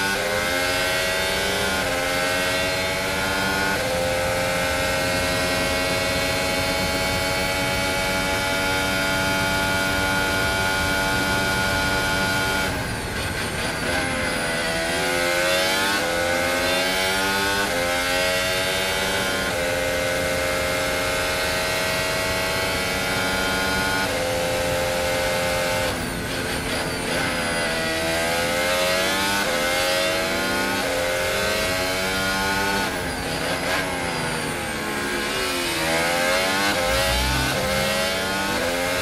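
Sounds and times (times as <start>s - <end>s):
racing car engine at full throttle: 0.0s - 39.0s.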